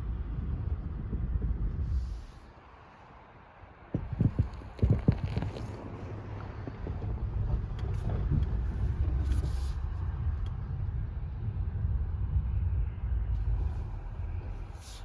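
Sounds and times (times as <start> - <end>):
car road and tyre noise: 0.0 - 15.0.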